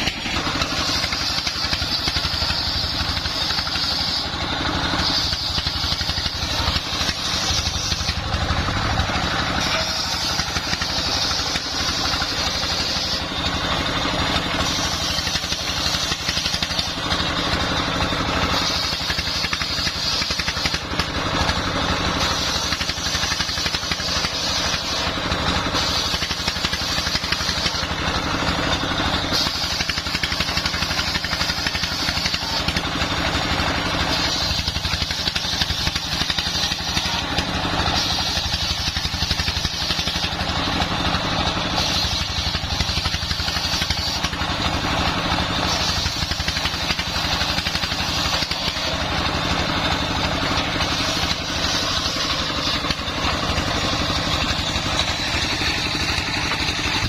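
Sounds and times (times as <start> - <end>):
diesel engine running under load: 0.0 - 57.0
saw whining through timber: 0.0 - 57.0.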